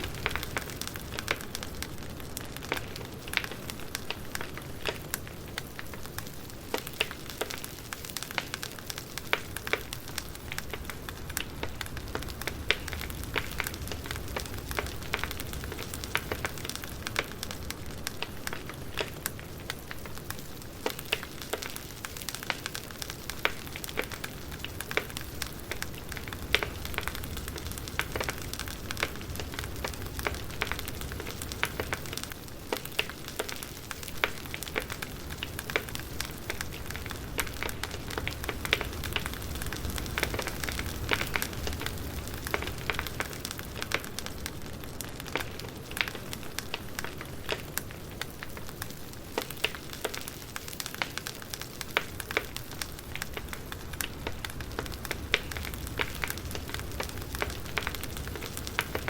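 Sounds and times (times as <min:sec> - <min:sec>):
firewood crackling: 0:00.0 - 0:59.0.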